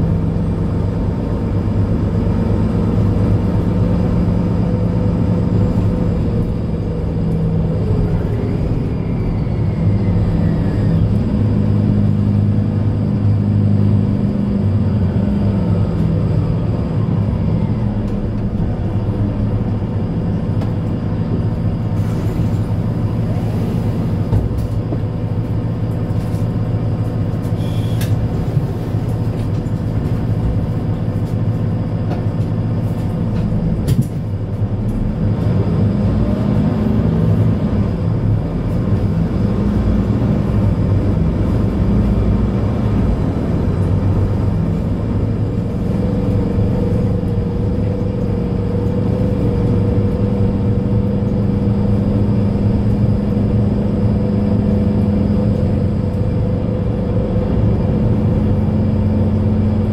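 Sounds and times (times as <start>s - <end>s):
bus diesel engine idling: 0.0s - 59.9s.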